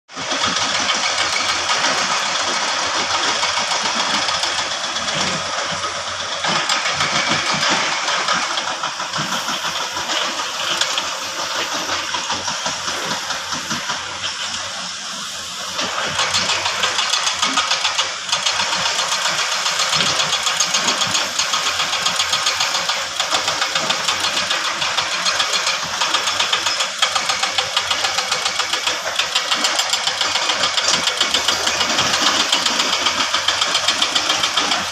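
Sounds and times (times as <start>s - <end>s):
heavy diesel engine knocking: 0.1s - 34.9s.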